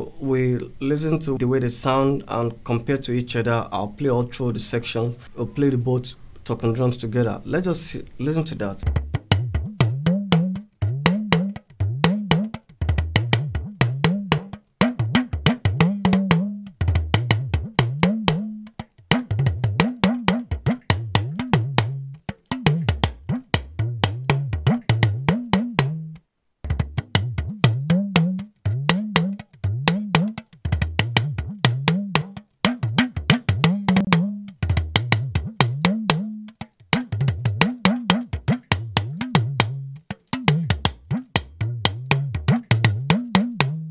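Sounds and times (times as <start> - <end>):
talking drum playing: 8.8 - 43.9.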